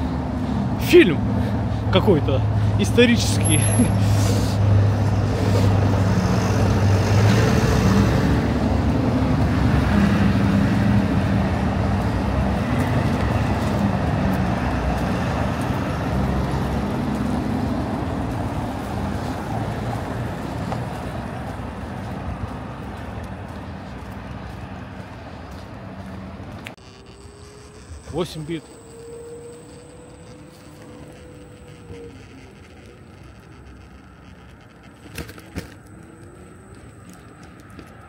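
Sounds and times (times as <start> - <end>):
vehicle engine low drone: 0.0 - 38.0.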